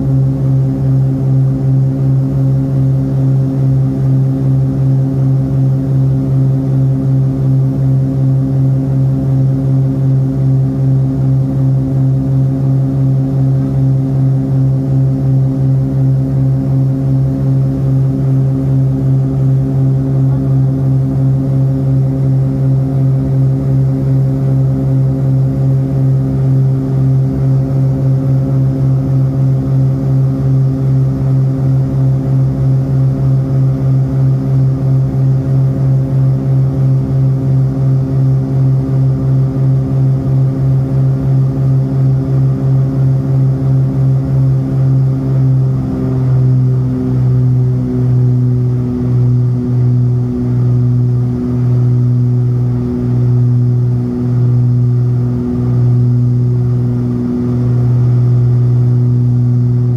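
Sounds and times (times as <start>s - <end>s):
propeller engines droning: 0.0s - 59.9s.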